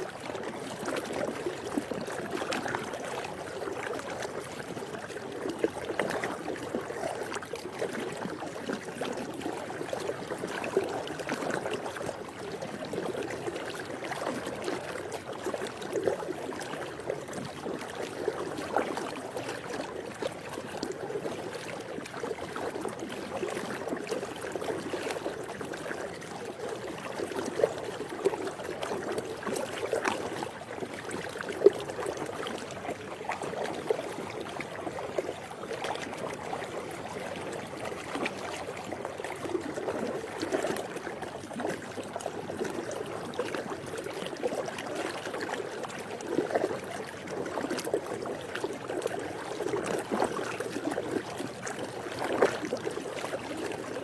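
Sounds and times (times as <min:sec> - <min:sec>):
pool water lapping: 0:00.0 - 0:54.0.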